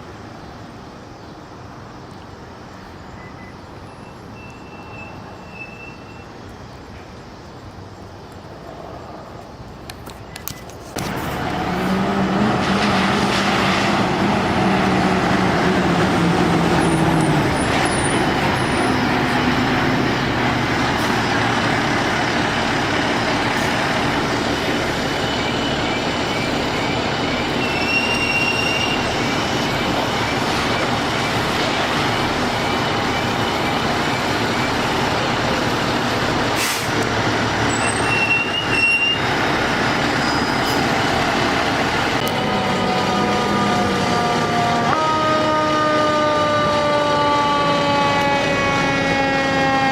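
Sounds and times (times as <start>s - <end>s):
road noise: 0.0s - 49.9s
heavy truck engine: 9.8s - 49.9s.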